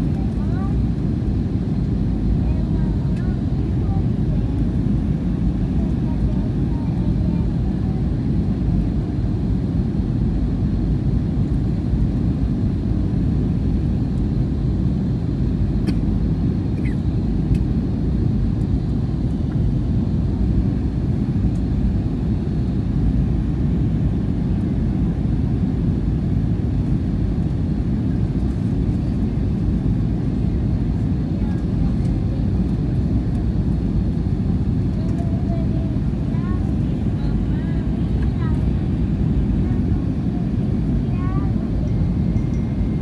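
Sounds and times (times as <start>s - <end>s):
airliner cabin rumble: 0.0s - 43.0s.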